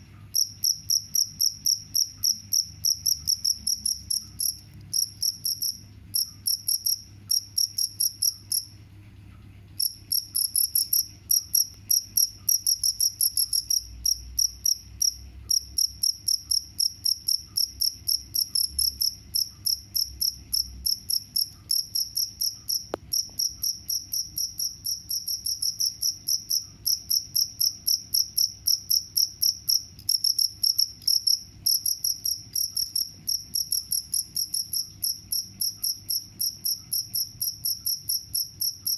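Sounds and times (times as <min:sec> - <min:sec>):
cricket chirping: 0:00.1 - 0:08.8, 0:09.7 - 0:38.9.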